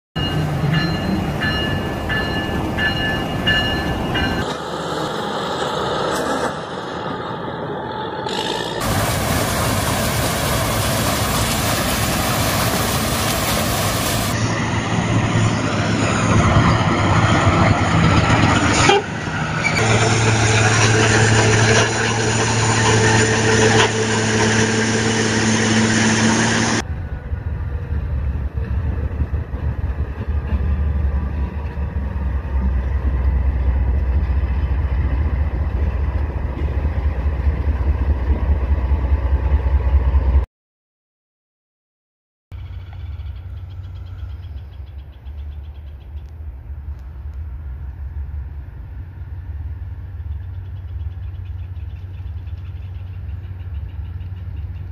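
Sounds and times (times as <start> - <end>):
deep locomotive rumble: 0.2 - 40.4, 42.6 - 54.9
harvester and tractor engines humming: 0.2 - 40.4, 42.6 - 54.9.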